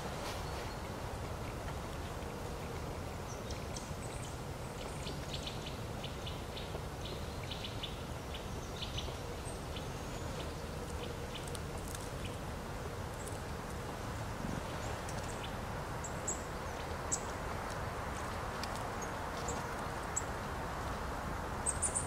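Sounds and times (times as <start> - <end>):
small birds chipping: 0.0 - 22.0.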